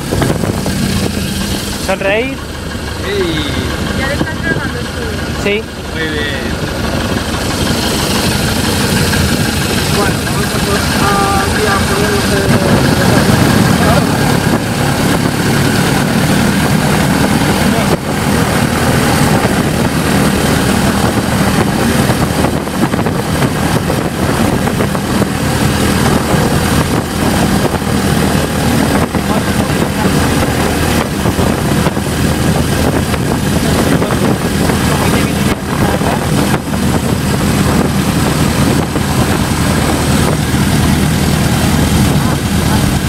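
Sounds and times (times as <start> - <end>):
aircraft engine droning: 0.0 - 43.0
loud airflow noise: 0.0 - 43.0.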